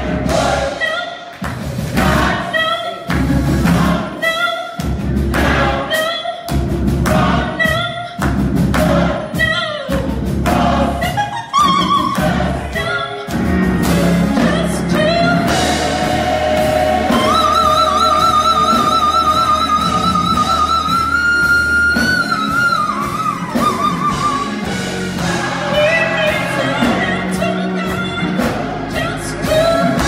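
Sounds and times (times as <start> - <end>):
choir singing a gospel song: 0.0 - 30.0.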